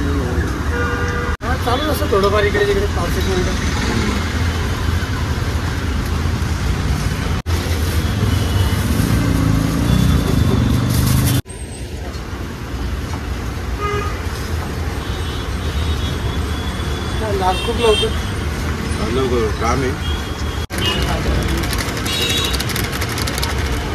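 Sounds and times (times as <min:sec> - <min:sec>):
road traffic noise: 0:00.0 - 0:23.9.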